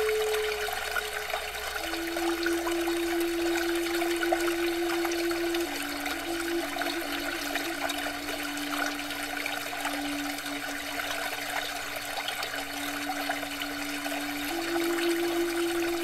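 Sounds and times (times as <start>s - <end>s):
fountain water splashing: 0.0s - 16.0s
steady hum: 0.0s - 16.0s.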